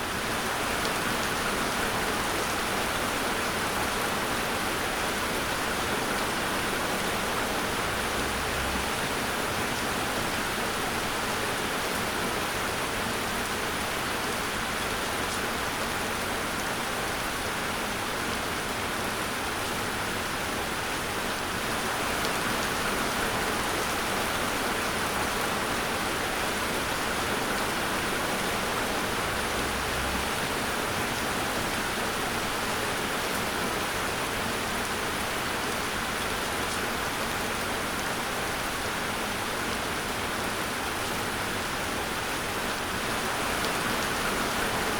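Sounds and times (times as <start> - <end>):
rain pattering on a surface: 0.1 - 44.9.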